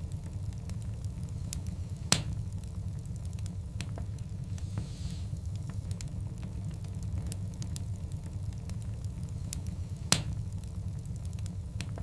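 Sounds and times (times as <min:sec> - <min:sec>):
fire crackles: 0:00.0 - 0:12.0
wood fire rumbling: 0:00.0 - 0:12.0.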